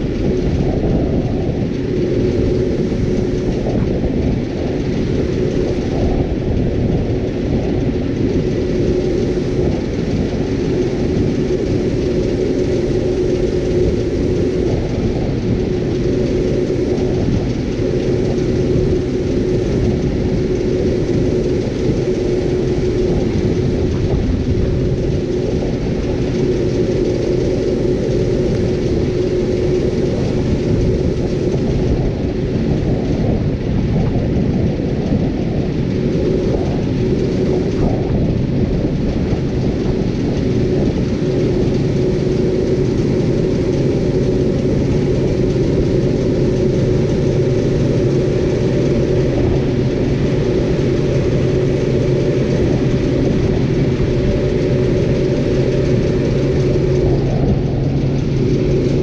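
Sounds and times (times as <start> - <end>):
combine harvester rumbling: 0.0 - 59.0
steady machine whine: 0.0 - 59.0.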